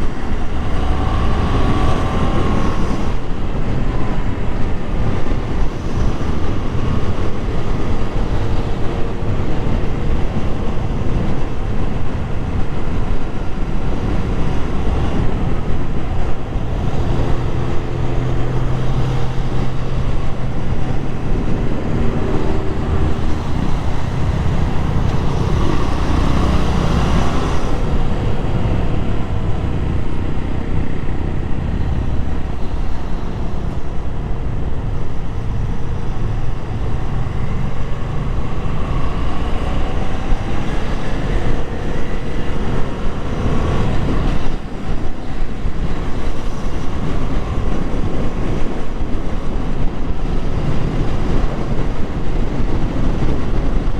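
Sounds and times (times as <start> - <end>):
wind and road noise: 0.0 - 53.9.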